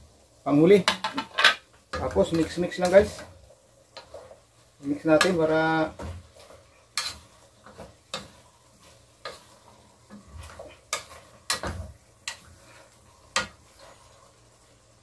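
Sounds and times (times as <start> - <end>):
spatula scraping and knocking pot: 0.8 - 14.6.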